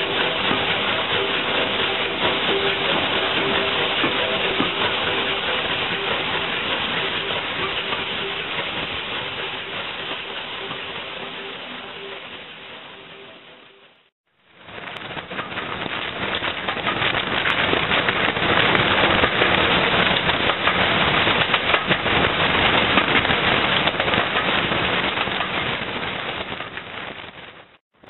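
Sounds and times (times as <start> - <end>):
steam train exhaust and wheels rattling: 0.0 - 28.0.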